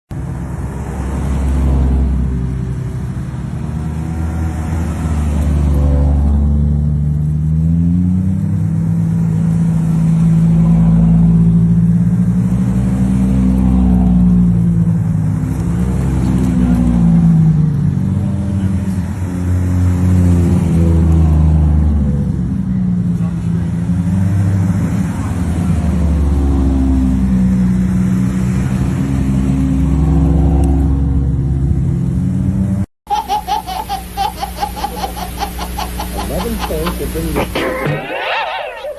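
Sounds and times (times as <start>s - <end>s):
supercar engines revving: 0.2s - 32.8s, 33.4s - 38.9s.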